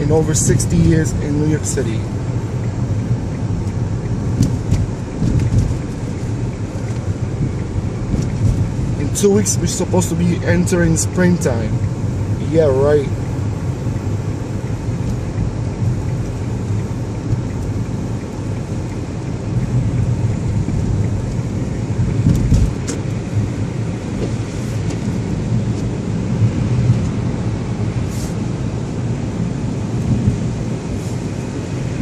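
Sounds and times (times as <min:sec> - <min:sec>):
car driving on snow: 0:00.0 - 0:32.0.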